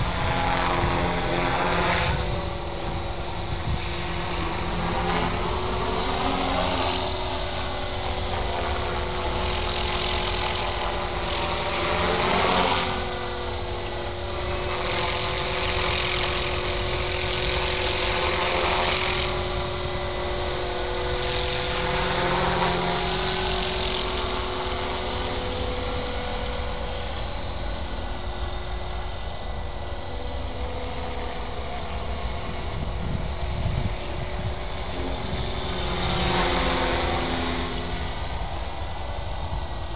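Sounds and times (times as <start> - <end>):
rc helicopter whining past: 0.0 - 39.9.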